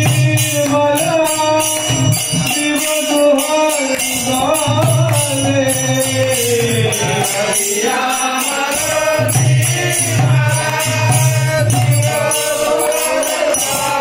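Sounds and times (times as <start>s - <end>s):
brass hand cymbals: 0.0s - 14.0s
men chanting devotional song: 0.0s - 14.0s.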